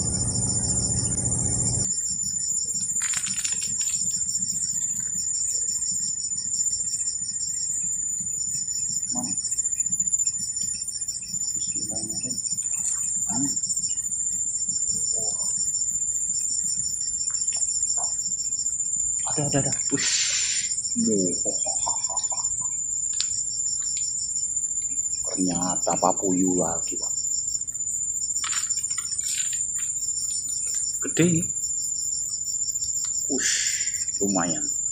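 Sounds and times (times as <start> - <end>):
insect trilling: 0.0 - 34.9
insects buzzing: 0.0 - 34.9.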